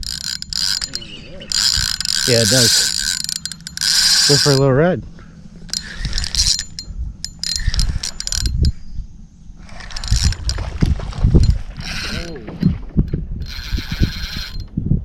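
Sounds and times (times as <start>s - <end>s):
fishing reel ratcheting and whirring: 0.0s - 4.7s, 5.7s - 8.8s, 9.6s - 12.4s, 13.0s - 14.7s
low wind rumble: 0.0s - 15.0s.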